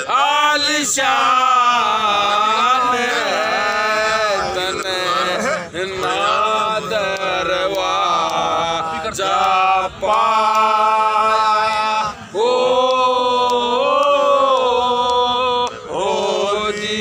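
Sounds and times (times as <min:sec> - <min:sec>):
men singing without instruments: 0:00.0 - 0:17.0.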